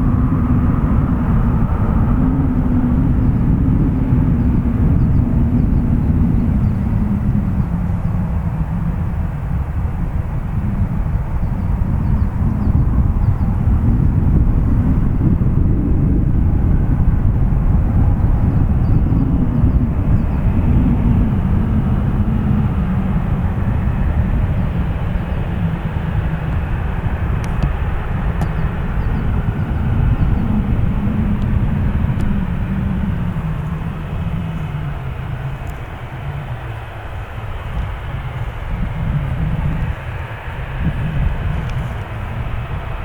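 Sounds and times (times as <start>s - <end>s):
jet engines rumbling: 0.0s - 43.0s.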